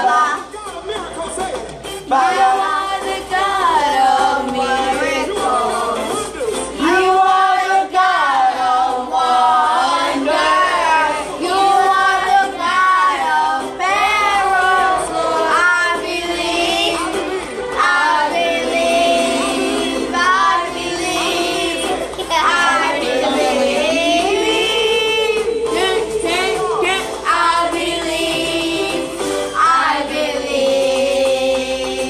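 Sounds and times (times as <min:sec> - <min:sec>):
children and adults singing: 0:00.0 - 0:00.6, 0:02.0 - 0:32.0.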